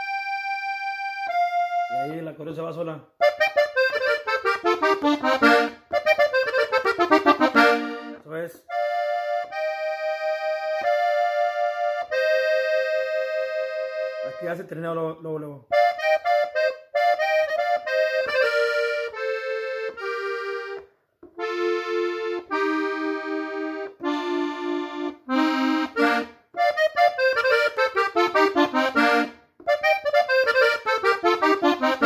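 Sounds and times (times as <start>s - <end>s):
button accordion melody: 0.0s - 14.9s, 15.7s - 32.0s.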